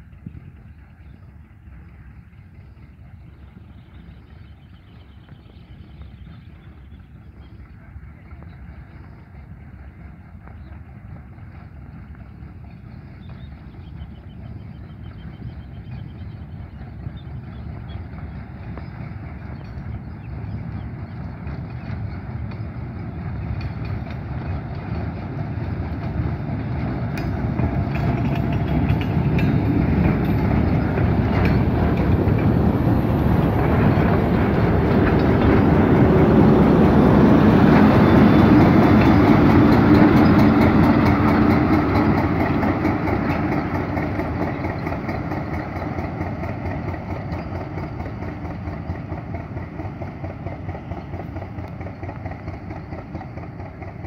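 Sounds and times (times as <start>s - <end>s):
diesel locomotive engine running: 0.0s - 54.0s
train wheels rolling on rails: 0.0s - 54.0s.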